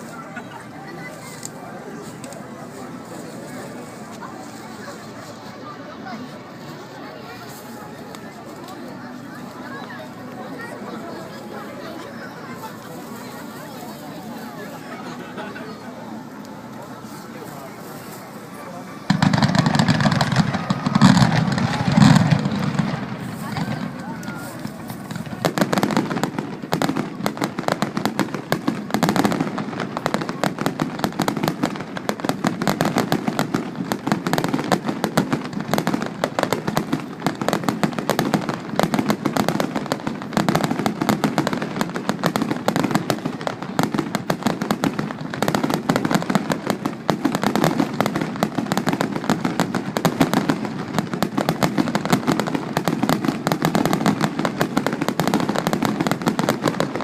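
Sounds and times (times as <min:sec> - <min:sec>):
rapid fireworks bangs and crackles: 0:00.0 - 0:57.0.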